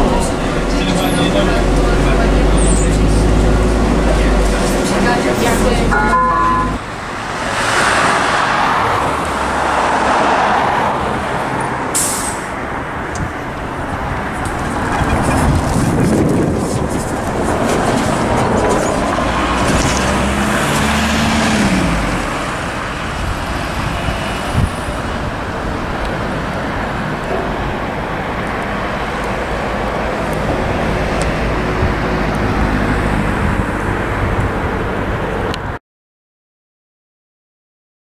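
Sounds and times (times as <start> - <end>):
bus pulling away: 0.0 - 35.6
road traffic noise: 0.0 - 35.8.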